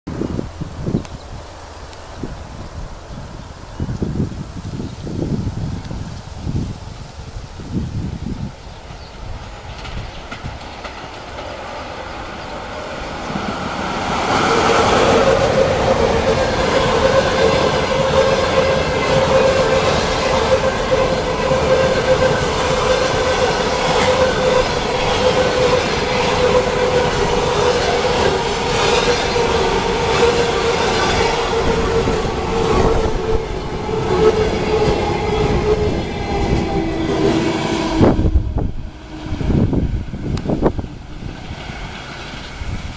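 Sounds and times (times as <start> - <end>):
train wheels rumbling and clattering: 7.8 - 42.9.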